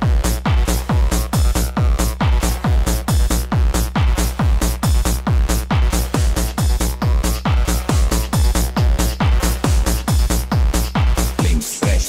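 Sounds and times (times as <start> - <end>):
hard techno dance music: 0.0 - 12.0
pounding kick drum: 0.0 - 12.0
hi-hats: 0.1 - 12.0.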